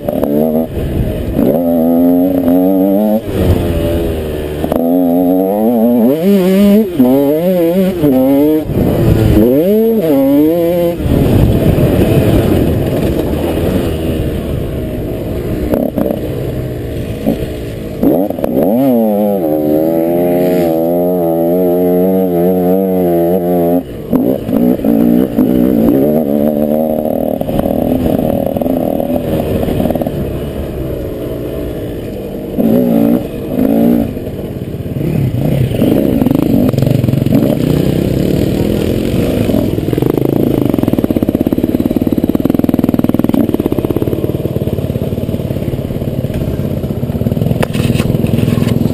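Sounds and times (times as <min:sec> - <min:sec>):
motocross engine revving: 0:00.0 - 0:48.9.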